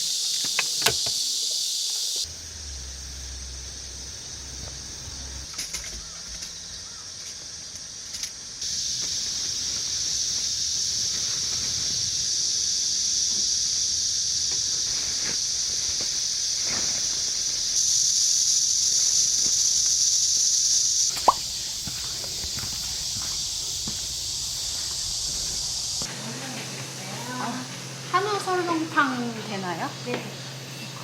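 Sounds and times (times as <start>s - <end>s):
cicada chorus buzzing: 0.0s - 31.0s.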